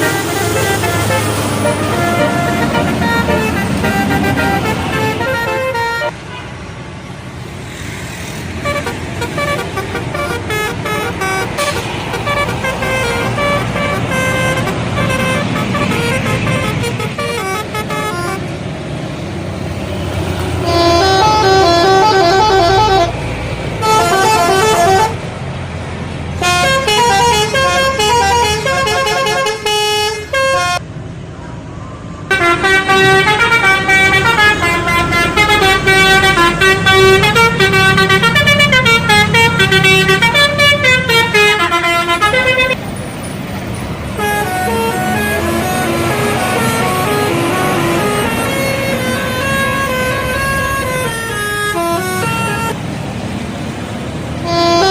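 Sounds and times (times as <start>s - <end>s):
melodic bus horns: 0.0s - 6.6s, 8.5s - 25.5s, 26.3s - 30.9s, 32.3s - 42.8s, 43.9s - 53.2s, 54.1s - 54.9s.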